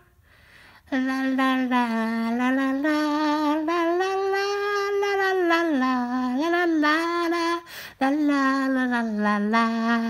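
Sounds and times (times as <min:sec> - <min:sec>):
high voice singing wordless notes: 0:00.9 - 0:10.0.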